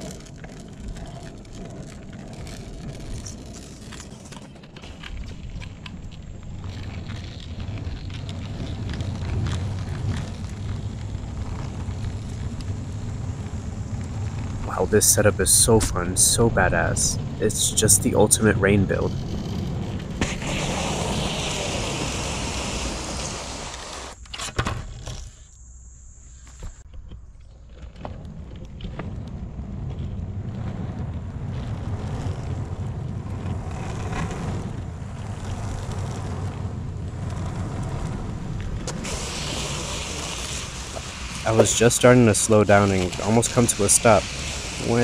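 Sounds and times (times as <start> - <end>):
skateboard wheels rolling on asphalt: 0.0 - 45.0.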